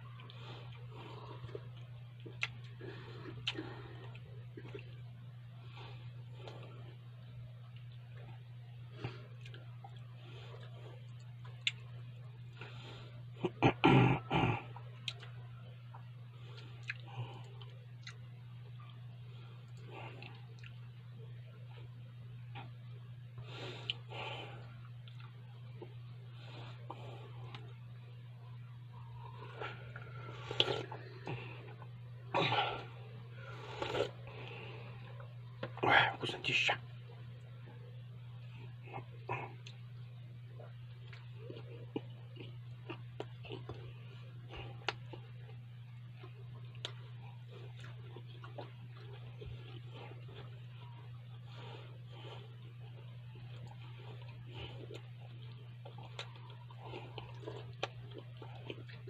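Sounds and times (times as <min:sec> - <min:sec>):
person chewing food: 0:00.0 - 0:36.1, 0:37.1 - 0:59.0
steady low hum: 0:00.0 - 0:59.0.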